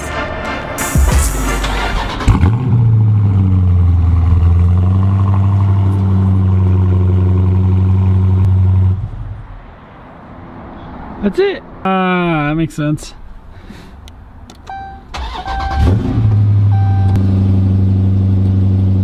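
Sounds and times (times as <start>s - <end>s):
car engine starting and idling: 0.0s - 10.0s, 13.2s - 19.0s.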